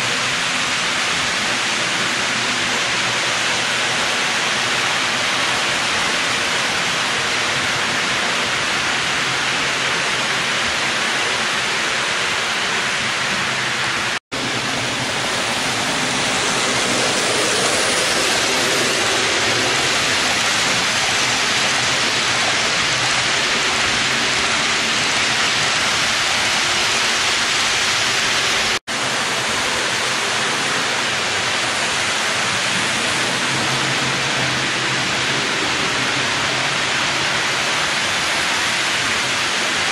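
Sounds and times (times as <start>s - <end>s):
steady rushing hiss: 0.0s - 39.9s.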